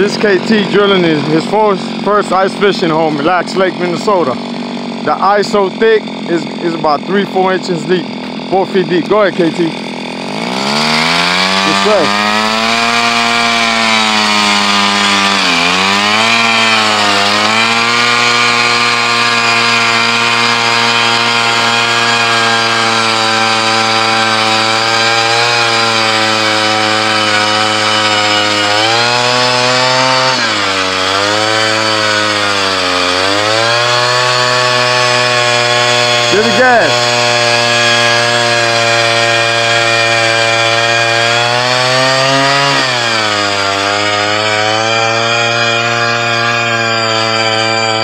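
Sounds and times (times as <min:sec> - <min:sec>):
ice auger engine boring ice: 0:00.0 - 0:48.0.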